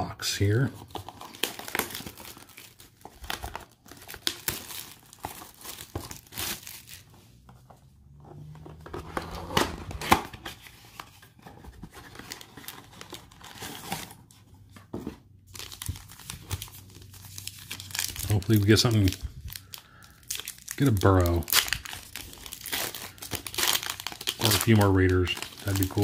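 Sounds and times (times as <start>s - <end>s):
cardboard packaging crinkling and tearing: 0.4s - 7.4s, 8.4s - 14.4s, 15.5s - 26.0s.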